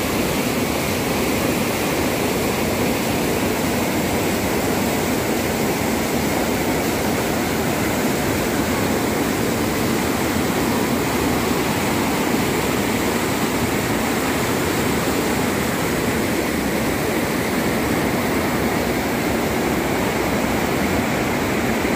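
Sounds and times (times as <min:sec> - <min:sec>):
water rushing over a weir: 0:00.0 - 0:21.9.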